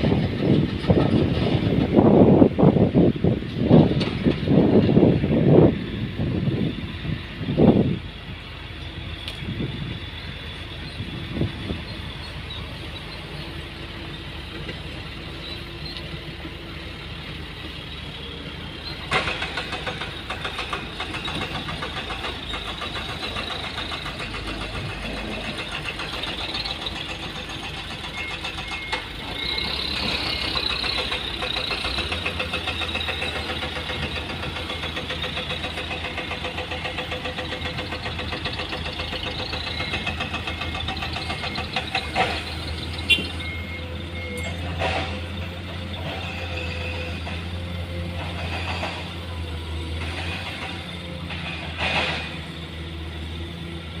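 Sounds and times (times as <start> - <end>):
diesel engine knocking: 0.0 - 5.2, 8.9 - 53.6.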